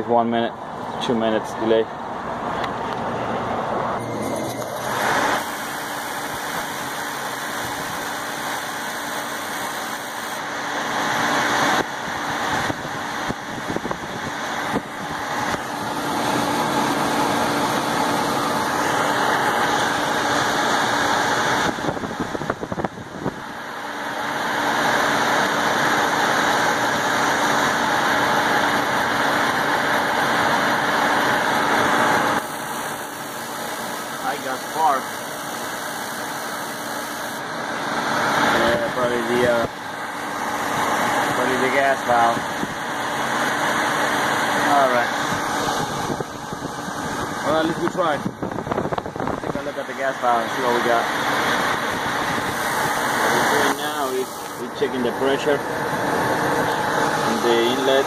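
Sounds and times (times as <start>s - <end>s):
heating unit fan humming: 0.0s - 58.0s.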